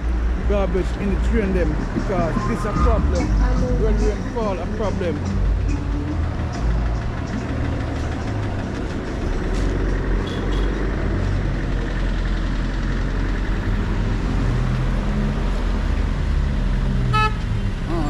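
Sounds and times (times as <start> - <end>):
road noise: 0.0 - 18.0
vehicle engine running: 3.0 - 18.0.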